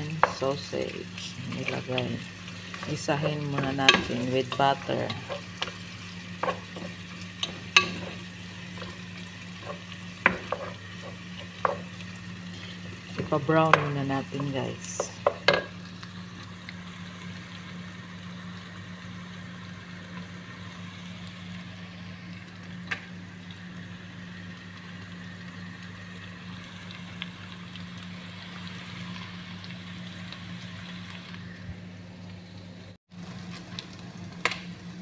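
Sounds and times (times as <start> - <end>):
meat sizzling in butter: 0.0 - 31.5.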